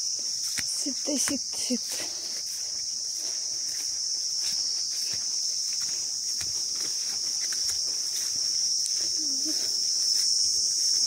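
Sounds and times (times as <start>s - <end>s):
footsteps through wet grass: 0.0s - 11.0s
high-pitched insect chorus: 0.0s - 11.0s.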